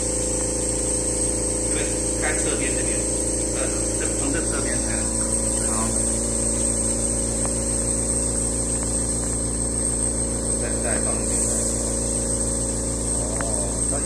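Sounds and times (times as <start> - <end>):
air supply hum and hiss: 0.0 - 14.0.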